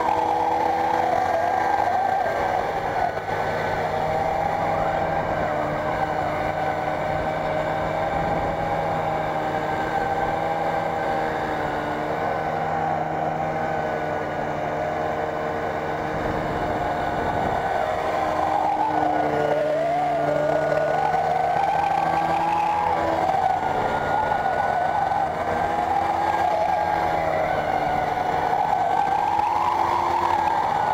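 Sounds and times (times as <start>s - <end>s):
snowmobile engine running: 0.0s - 30.9s.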